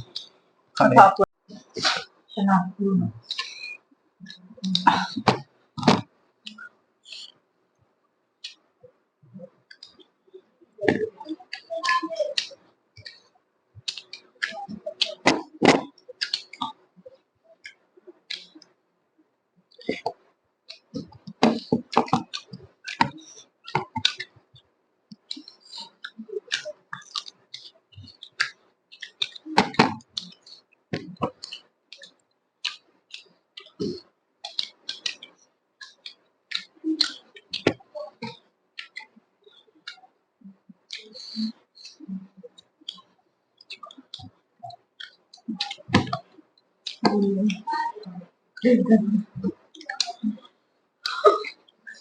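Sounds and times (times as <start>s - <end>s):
person chewing with mouth clicks: 3.2s - 7.4s, 9.4s - 18.7s, 19.7s - 48.0s, 49.2s - 52.0s.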